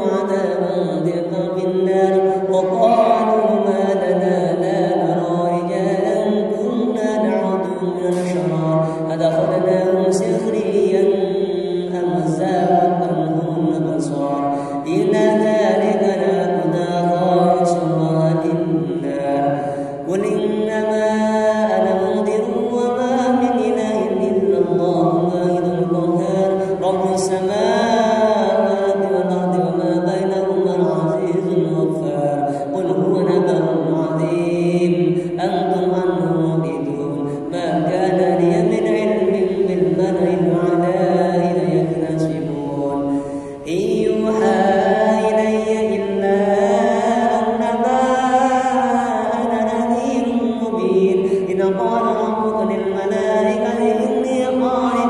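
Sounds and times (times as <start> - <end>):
man chanting into microphone: 0.0 - 55.0
man reciting melodically: 0.0 - 55.0.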